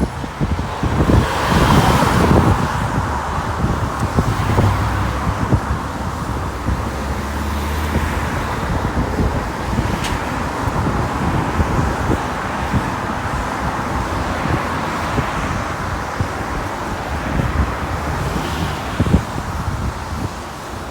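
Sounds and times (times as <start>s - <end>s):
low engine hum: 0.0s - 20.9s
traffic roar: 0.0s - 20.9s.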